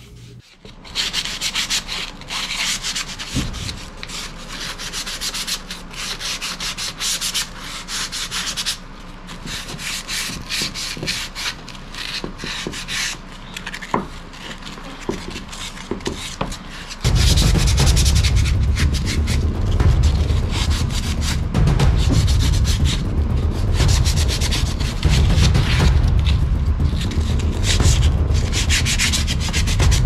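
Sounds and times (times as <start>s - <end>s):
sandpaper rubbing on wood: 0.0s - 30.0s.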